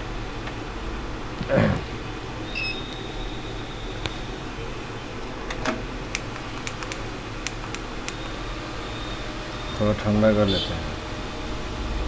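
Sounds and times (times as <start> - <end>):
fan whirring: 0.0 - 12.0.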